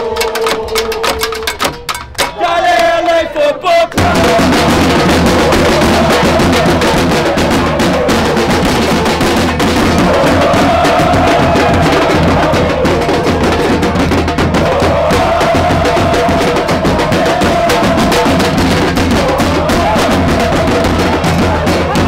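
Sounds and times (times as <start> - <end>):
voices chanting: 0.0 - 1.5, 2.2 - 22.0
marching snare drums: 0.0 - 3.1, 3.9 - 22.0.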